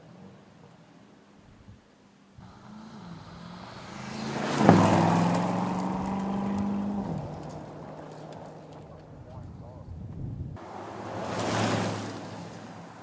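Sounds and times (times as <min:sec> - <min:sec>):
car engine exhaust: 0:02.4 - 0:13.0.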